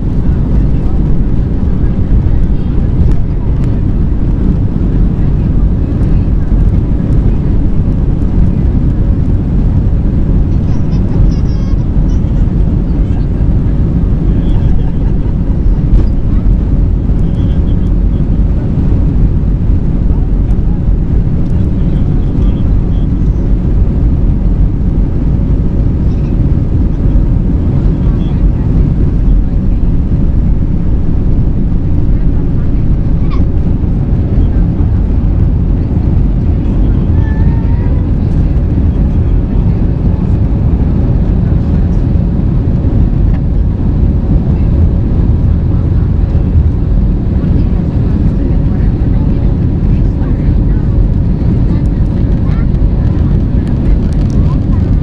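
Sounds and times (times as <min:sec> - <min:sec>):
faint steady hum: 0:00.0 - 0:55.0
jet engines rumbling: 0:00.0 - 0:55.0.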